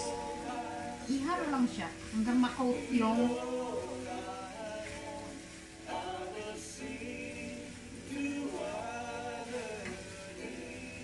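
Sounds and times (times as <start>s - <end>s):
background music: 0.0s - 11.0s
person singing: 0.0s - 11.0s.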